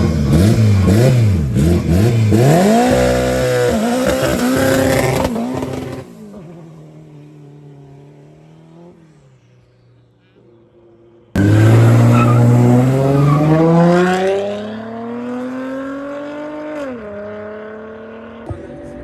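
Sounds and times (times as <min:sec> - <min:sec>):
racing car engine accelerating: 0:00.0 - 0:09.3, 0:11.3 - 0:19.0.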